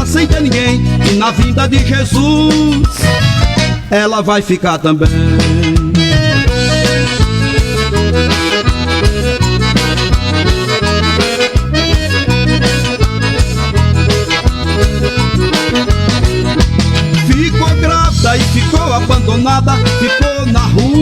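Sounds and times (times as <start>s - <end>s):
upbeat instrumental gospel music: 0.0s - 21.0s.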